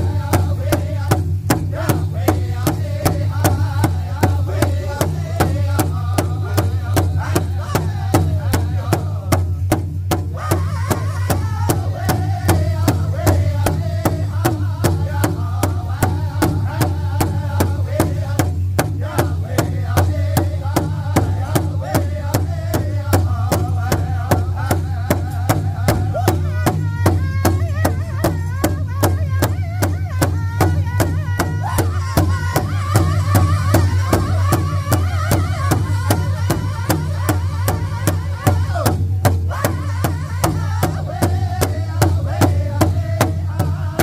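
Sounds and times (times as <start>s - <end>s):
group singing together: 0.0s - 9.7s, 10.3s - 44.0s
steady drum beat: 0.0s - 44.0s.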